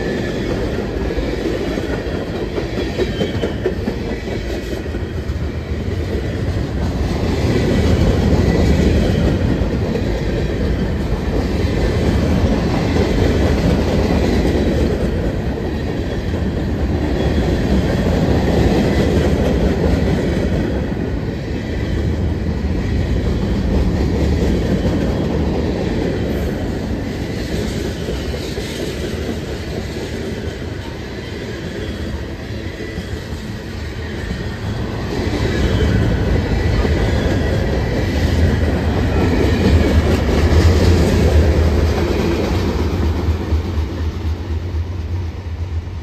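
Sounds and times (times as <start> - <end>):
freight train wheels on rails: 0.0 - 46.0.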